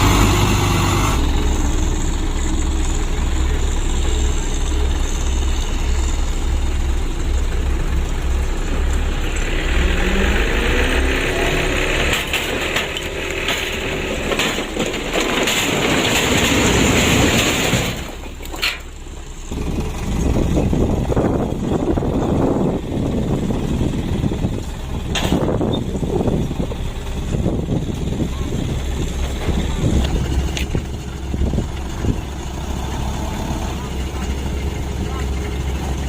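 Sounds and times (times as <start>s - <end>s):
dump truck engine revving: 0.0s - 36.0s.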